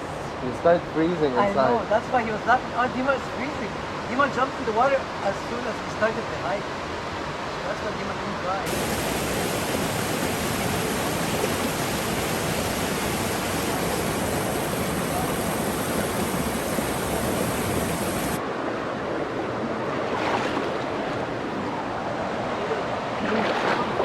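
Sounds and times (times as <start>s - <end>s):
fast-flowing river water: 1.2s - 24.0s.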